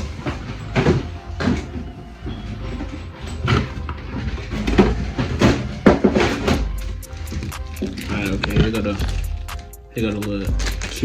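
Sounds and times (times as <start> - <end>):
knocks and clatter of objects moved: 0.0 - 11.0.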